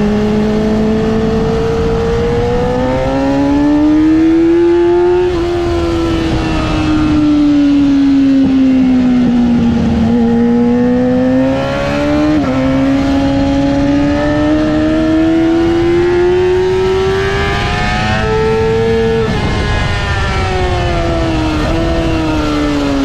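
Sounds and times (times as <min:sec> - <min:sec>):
sport bike engine at high revs: 0:00.0 - 0:23.0.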